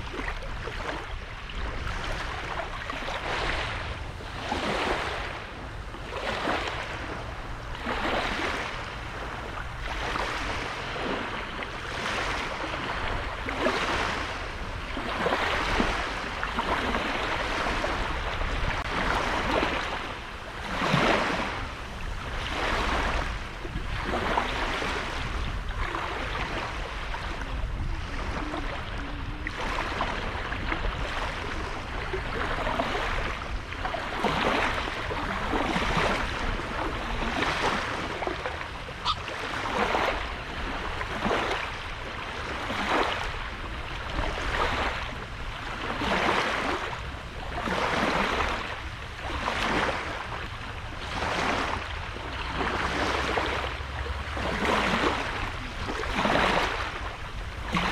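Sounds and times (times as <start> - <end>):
small waves breaking on beach: 0.0 - 57.9
wind rumble on microphone: 0.0 - 57.9.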